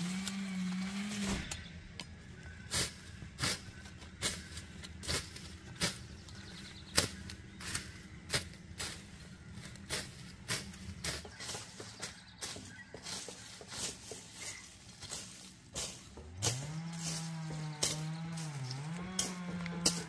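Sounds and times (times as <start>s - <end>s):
machete chopping weeds: 0.0s - 2.1s, 2.7s - 20.0s.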